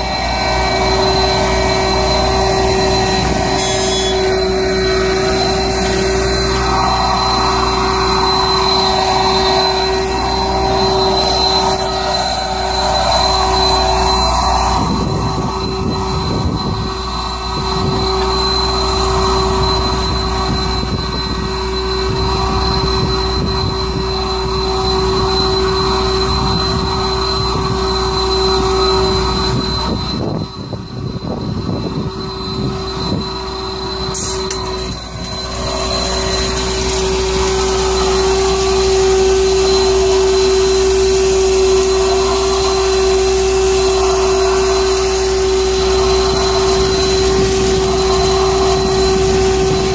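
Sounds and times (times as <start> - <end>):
heavy machinery rumbling: 0.0 - 49.9
high machine whine: 0.0 - 49.9.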